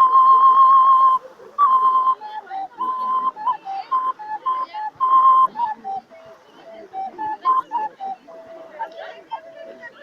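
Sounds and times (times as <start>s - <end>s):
flute melody: 0.0s - 10.0s.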